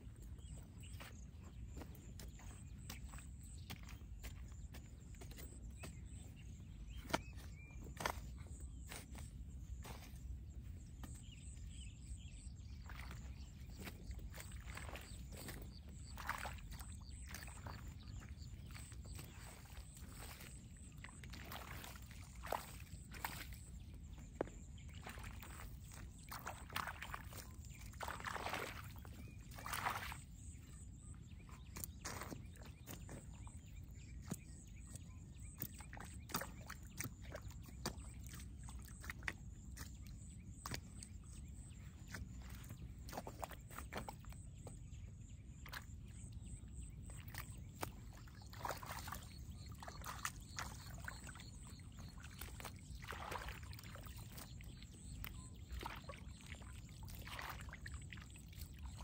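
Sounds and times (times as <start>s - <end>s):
water splashing and sloshing: 0.0s - 59.0s.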